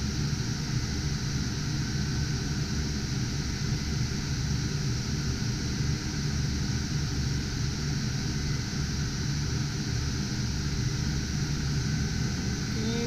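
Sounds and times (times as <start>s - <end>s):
cooling fans whirring: 0.0s - 13.0s.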